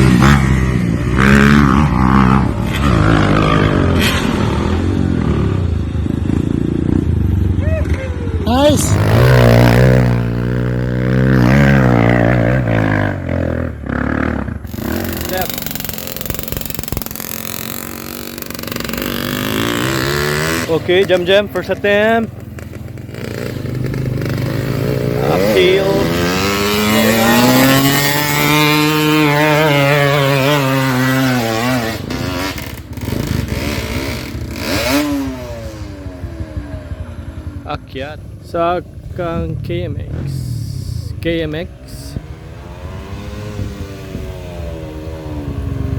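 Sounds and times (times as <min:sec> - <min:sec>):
dirt bike engine running: 0:08.2 - 0:45.9.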